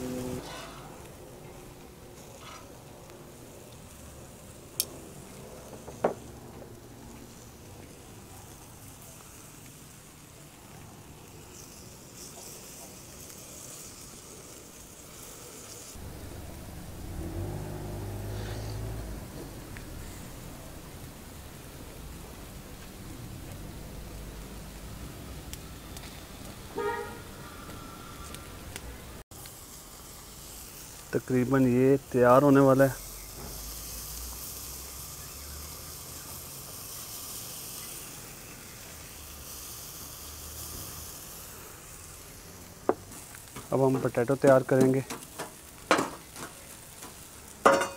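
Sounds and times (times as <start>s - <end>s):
steak sizzling on a grill: 0.0s - 27.3s, 29.3s - 47.9s.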